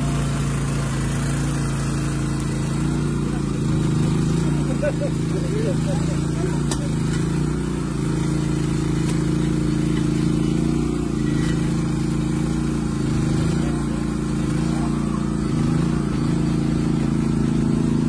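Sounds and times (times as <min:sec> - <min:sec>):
small excavator engine running: 0:00.0 - 0:18.0.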